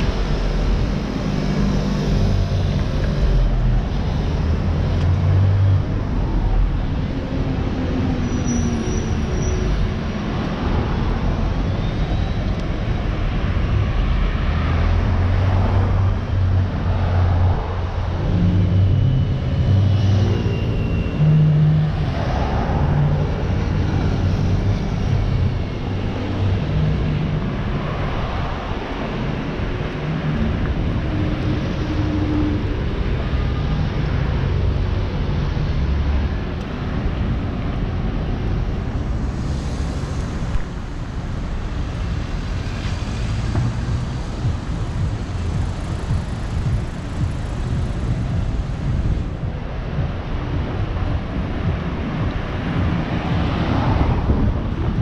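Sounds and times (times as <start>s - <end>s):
cars and bus driving past: 0.0s - 55.0s.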